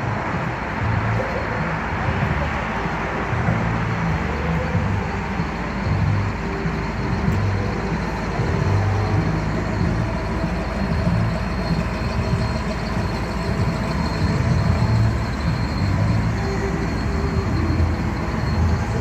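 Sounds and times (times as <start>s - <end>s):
road noise: 0.0s - 19.0s
truck engine rumble: 0.0s - 19.0s.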